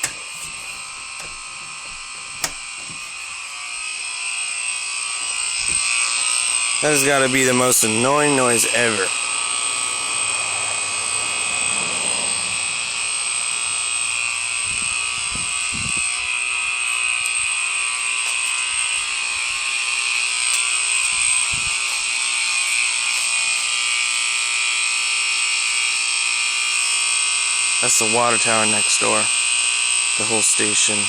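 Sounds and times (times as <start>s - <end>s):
high-pitched electronic alarm buzz: 0.0s - 31.0s.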